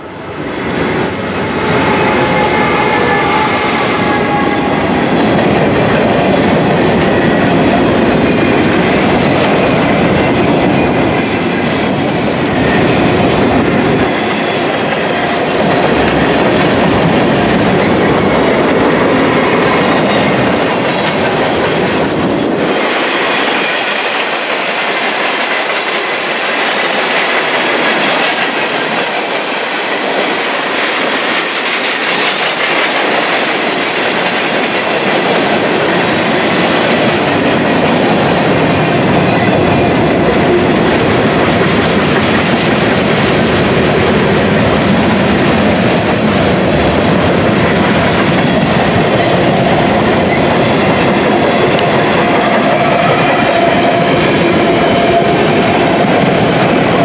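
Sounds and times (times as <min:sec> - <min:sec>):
freight train rumble: 0:00.0 - 0:57.0
train wheels clicking over rail joints: 0:00.5 - 0:57.0.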